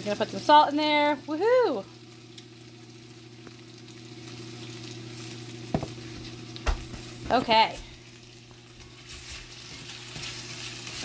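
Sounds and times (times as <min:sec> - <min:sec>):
potatoes and onions sizzling: 0:00.0 - 0:11.0.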